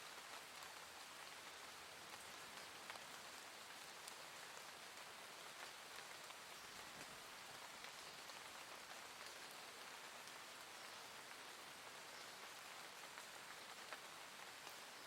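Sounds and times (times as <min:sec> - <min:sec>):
faint raindrop ticks: 0:00.0 - 0:15.0
soft rain falling: 0:00.0 - 0:15.0.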